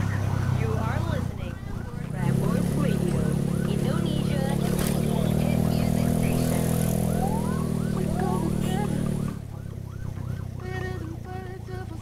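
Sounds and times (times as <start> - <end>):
motorcycle engine hum: 0.0 - 12.0
siren yelping: 0.0 - 12.0.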